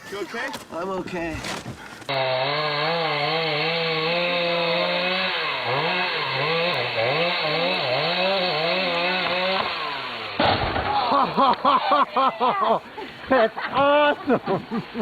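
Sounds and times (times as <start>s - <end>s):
chainsaw engine running: 2.1s - 15.0s.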